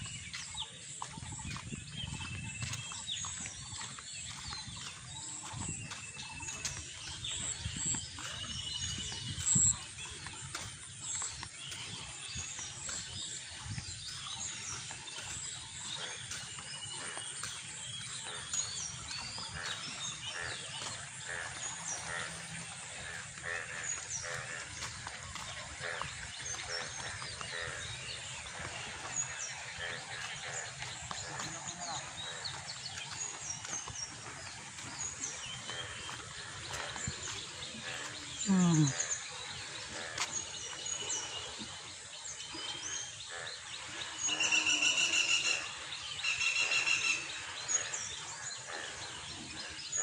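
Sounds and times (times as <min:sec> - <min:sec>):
birds chirping and calling: 0:00.0 - 0:50.0.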